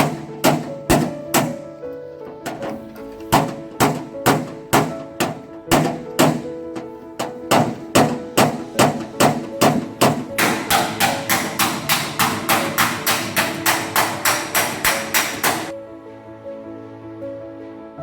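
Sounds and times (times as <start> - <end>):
hammer striking sheet metal: 0.0 - 1.7, 2.4 - 15.7.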